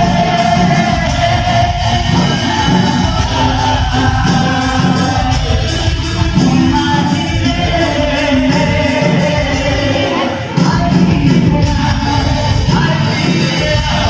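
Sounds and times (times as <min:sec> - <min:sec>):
live music with singing: 0:00.0 - 0:14.0.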